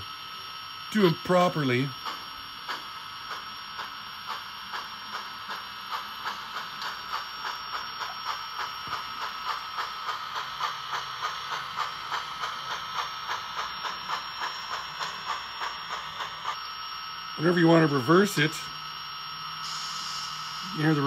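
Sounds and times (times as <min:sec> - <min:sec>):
steam locomotive exhaust chuffs: 0:00.0 - 0:21.0
steady hiss: 0:00.9 - 0:21.0.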